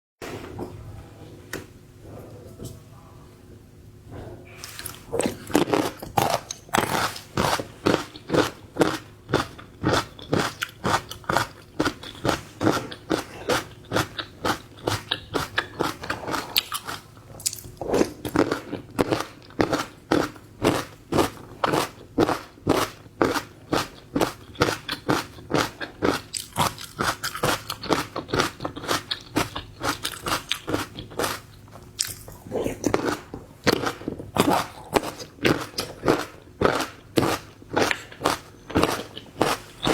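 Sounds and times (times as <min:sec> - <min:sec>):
crunchy chewing of food: 0:04.5 - 0:39.9.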